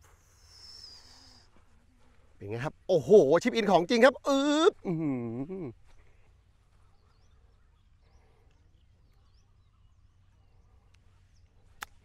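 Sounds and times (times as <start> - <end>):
faint bird chirps: 0.0 - 2.7, 5.0 - 12.0.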